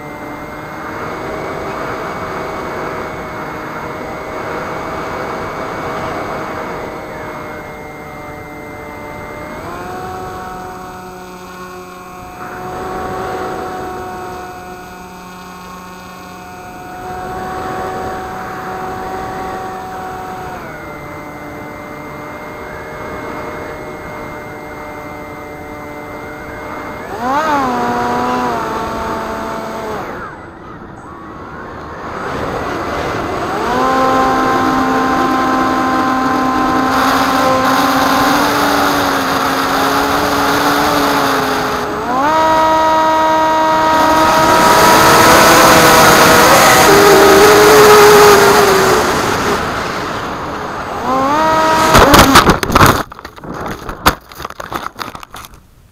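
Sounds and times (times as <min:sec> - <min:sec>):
electric motor and propeller whining: 0:00.0 - 0:55.6.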